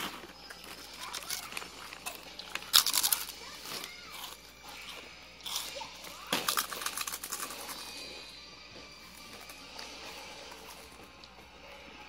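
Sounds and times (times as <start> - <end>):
snack bag crinkling: 0.0 - 11.8.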